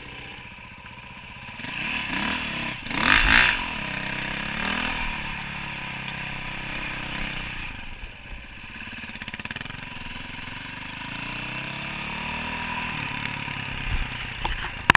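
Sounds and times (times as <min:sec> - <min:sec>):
dirt bike engine: 0:00.0 - 0:14.9.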